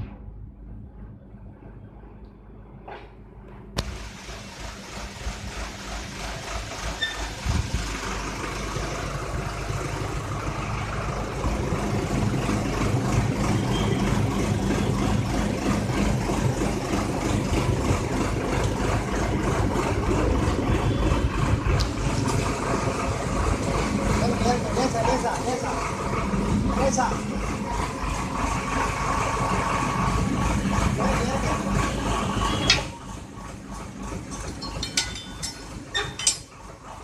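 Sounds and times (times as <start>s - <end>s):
tractor diesel engine running: 3.6s - 37.0s.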